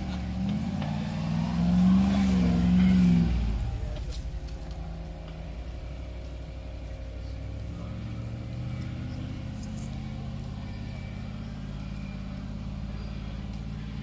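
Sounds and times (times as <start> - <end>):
vehicle engine under load: 0.0 - 14.0.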